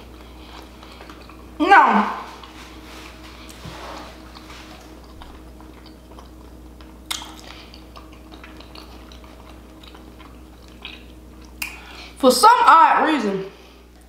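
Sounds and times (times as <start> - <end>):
mouth chewing sounds: 0.0 - 1.6, 2.3 - 12.2
steady low hum: 0.0 - 14.0.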